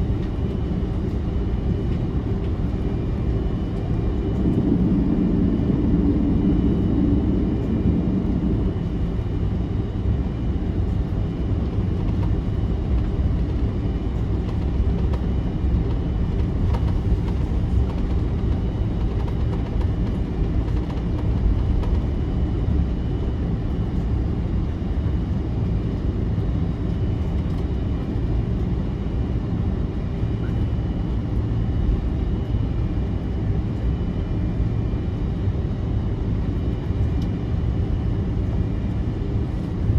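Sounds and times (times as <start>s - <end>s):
jet engines low rumble: 0.0s - 39.9s
low hum: 0.0s - 39.9s.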